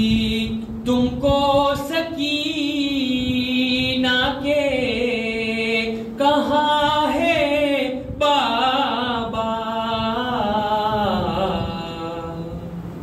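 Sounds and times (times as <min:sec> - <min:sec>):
man chanting unaccompanied: 0:00.0 - 0:13.0.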